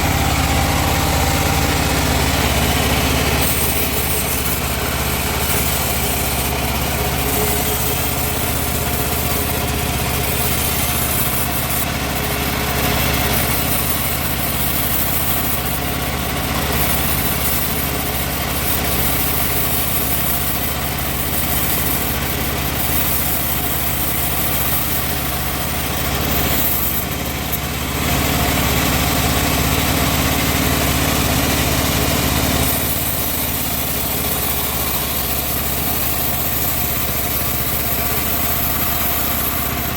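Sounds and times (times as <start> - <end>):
wood-sawing machine running: 0.0 - 39.9.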